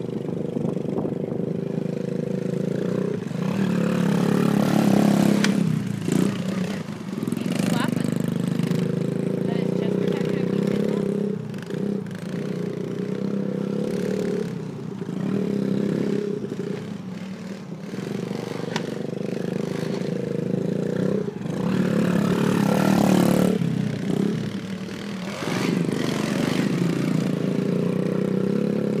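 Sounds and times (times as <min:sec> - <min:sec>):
small motorcycle engine revving: 0:00.0 - 0:29.0.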